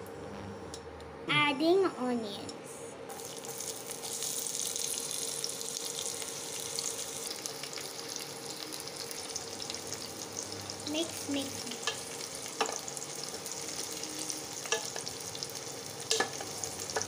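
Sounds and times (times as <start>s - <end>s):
onions sizzling in hot oil: 3.1s - 17.0s.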